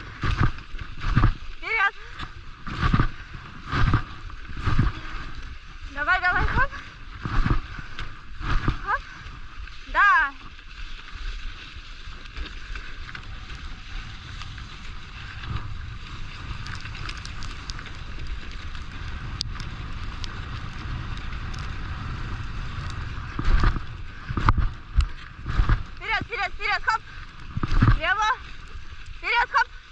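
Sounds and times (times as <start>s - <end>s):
wind buffeting microphone: 0.0s - 10.4s, 13.0s - 29.9s.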